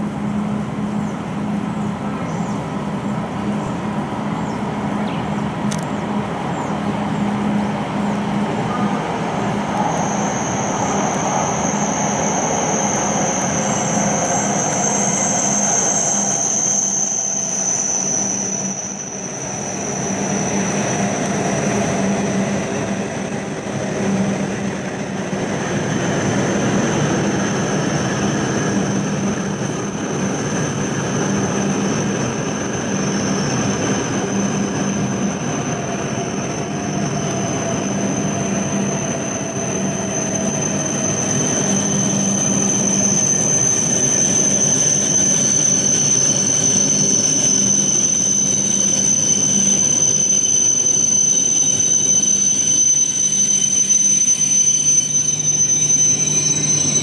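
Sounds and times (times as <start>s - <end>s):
high steady whine: 0.0s - 57.0s
high-speed train running past: 0.0s - 57.0s.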